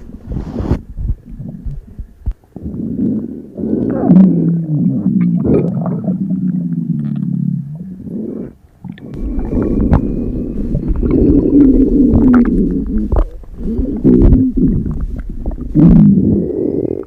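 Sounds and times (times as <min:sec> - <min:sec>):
stomach grumbling: 0:00.0 - 0:17.0.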